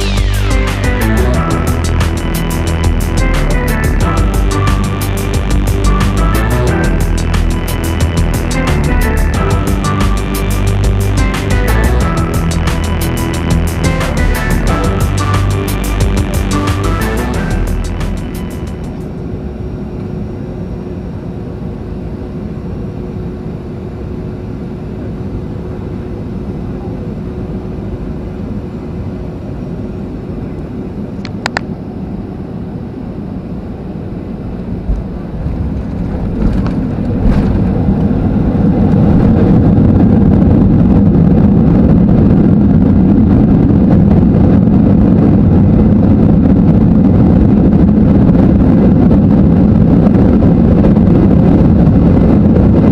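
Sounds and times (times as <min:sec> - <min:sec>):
jet engine roar: 0:00.0 - 0:52.9.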